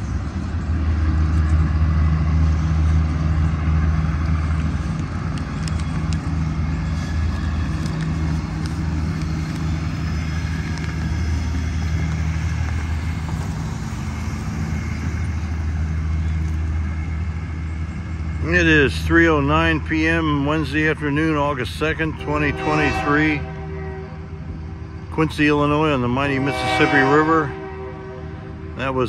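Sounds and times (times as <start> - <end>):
low engine rumble: 0.0 - 29.0.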